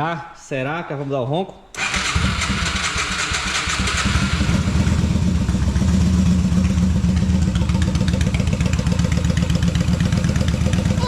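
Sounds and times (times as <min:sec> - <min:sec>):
motorcycle engine running: 0:01.8 - 0:11.0.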